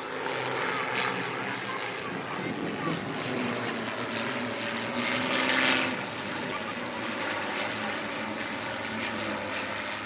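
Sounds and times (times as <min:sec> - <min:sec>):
propeller planes droning overhead: 0:00.0 - 0:10.0.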